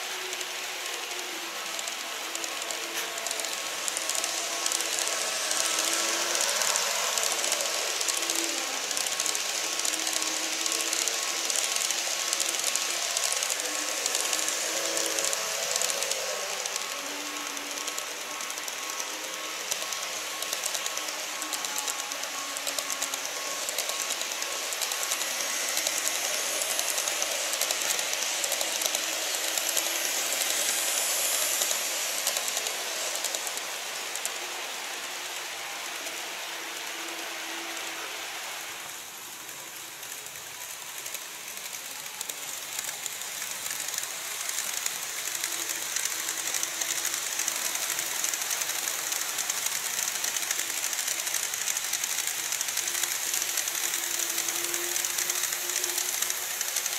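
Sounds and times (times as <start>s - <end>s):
model train whirring: 0.0s - 56.9s
small wheels clicking over rail joints: 0.0s - 56.9s.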